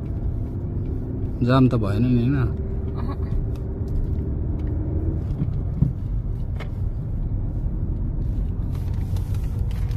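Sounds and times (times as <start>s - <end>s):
car engine and road rumble: 0.0s - 9.9s.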